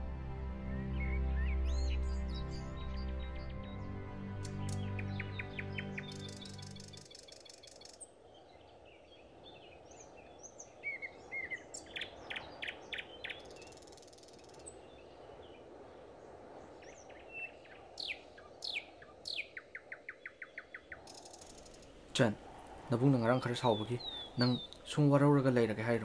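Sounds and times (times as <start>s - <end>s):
small birds chirping: 0.7s - 26.0s.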